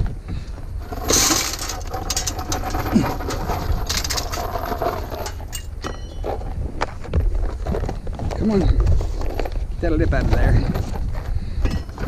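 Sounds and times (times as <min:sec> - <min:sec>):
scrap items clinking and knocking: 0:00.8 - 0:12.0.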